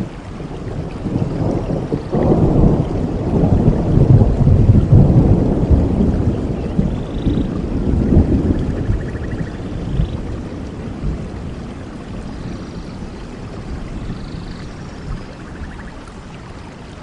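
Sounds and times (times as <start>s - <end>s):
thunder rumbling: 0.0s - 16.3s
rain hissing: 0.0s - 17.0s.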